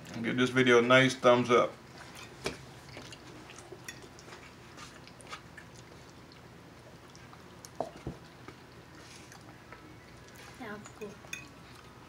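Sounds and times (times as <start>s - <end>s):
person chewing food: 1.8s - 12.0s.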